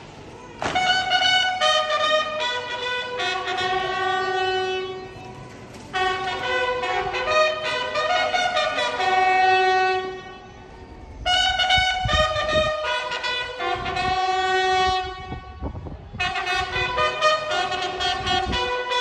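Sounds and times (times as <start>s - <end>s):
bugle-like brass long notes: 0.6s - 10.5s, 11.2s - 15.6s, 16.2s - 19.0s.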